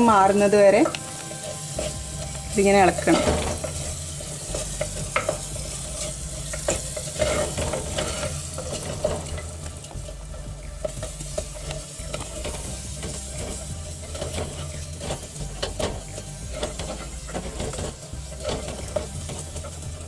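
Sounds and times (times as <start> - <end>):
masala sizzling in oil: 0.0 - 20.0
wooden spoon scraping clay pot: 0.9 - 20.0
steady low hum: 1.0 - 20.0.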